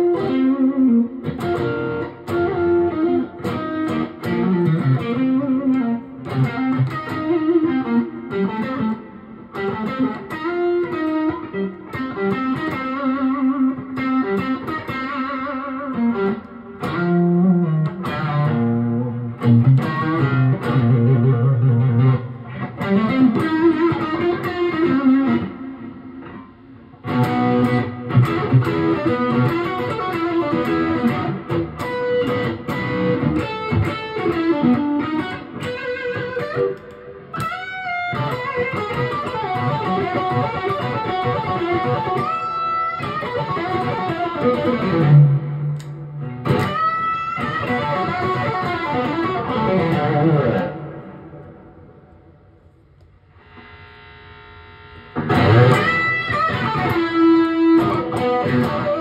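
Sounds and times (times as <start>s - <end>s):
overdriven electric guitar blues: 0.0s - 59.0s.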